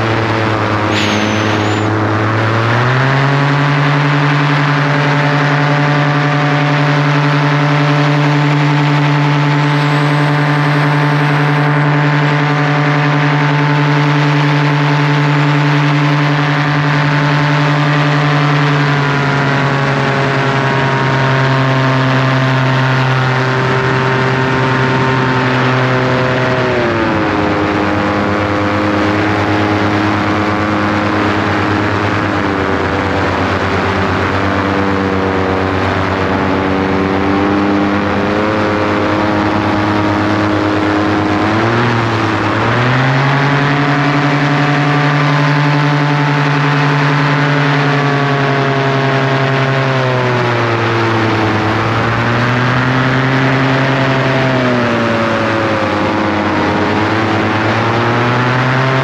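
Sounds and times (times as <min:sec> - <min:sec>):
engine running loud: 0:00.0 - 0:59.0.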